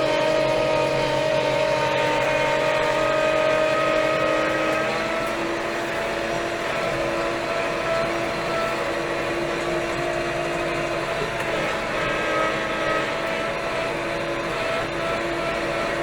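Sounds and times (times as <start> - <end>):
pitched whine: 0.0 - 16.0
tractor diesel engine running: 0.0 - 16.0.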